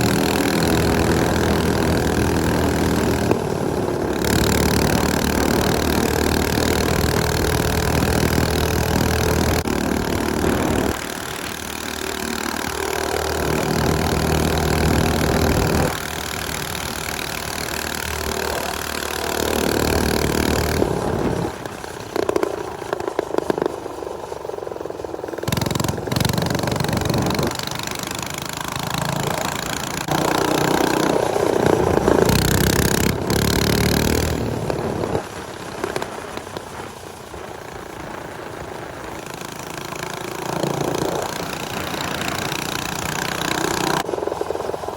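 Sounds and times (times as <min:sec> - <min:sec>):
small motorcycle engines revving: 0:00.0 - 0:23.8, 0:25.3 - 0:44.9.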